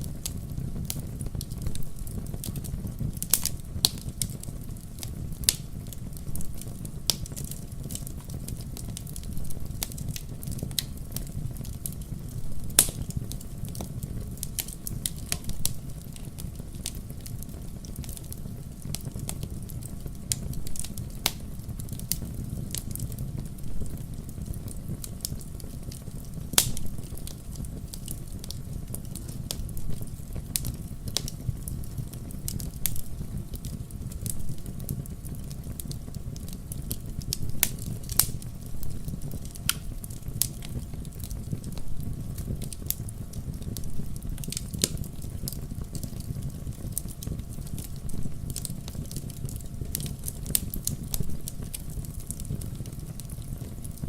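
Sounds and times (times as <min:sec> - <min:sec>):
fireplace fire crackling: 0:00.0 - 0:54.0
low rumble of fire: 0:00.0 - 0:54.0
sharp pops of fire: 0:00.0 - 0:54.0.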